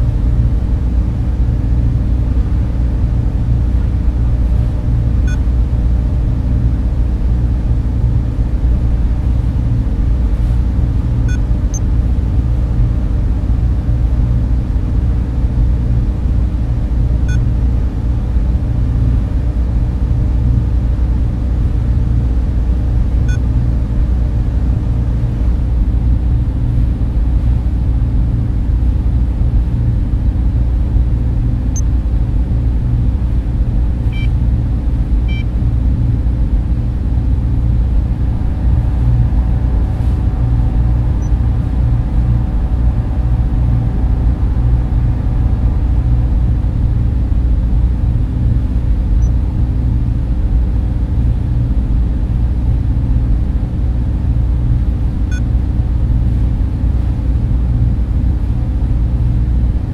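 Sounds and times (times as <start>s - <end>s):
drone of servers and fans: 0.0s - 59.9s.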